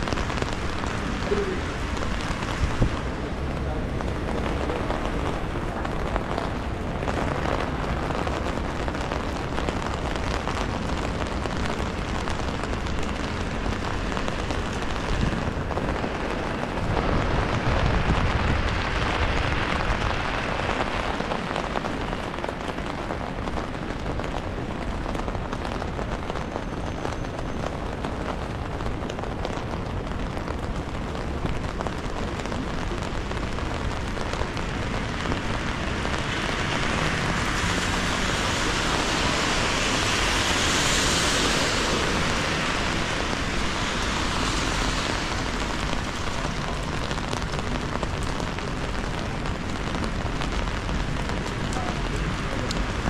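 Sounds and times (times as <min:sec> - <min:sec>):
rain pattering on umbrella: 0:00.0 - 0:53.0
wet street hiss: 0:00.0 - 0:53.0.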